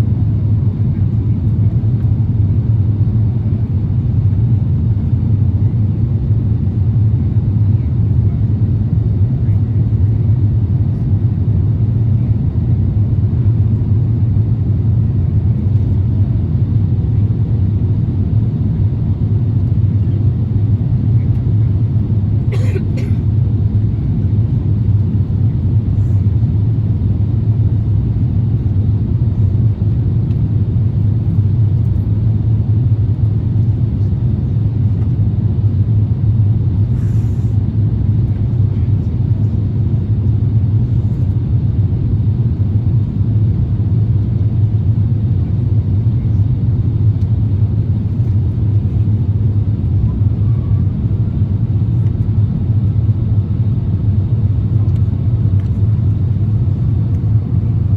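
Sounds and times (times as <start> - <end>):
airliner cabin engine rumble: 0.0 - 57.9.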